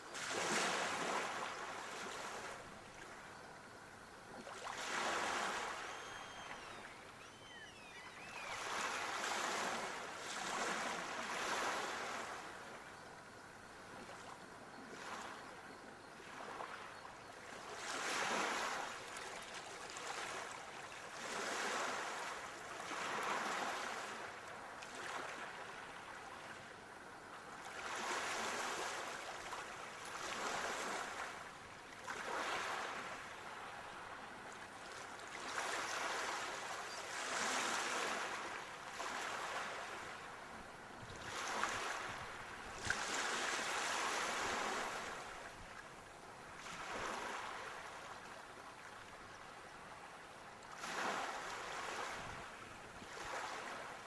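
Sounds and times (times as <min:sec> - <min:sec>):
sea waves breaking on shore: 0:00.0 - 0:03.2, 0:04.4 - 0:12.8, 0:16.2 - 0:26.7, 0:27.5 - 0:50.0, 0:50.7 - 0:54.0.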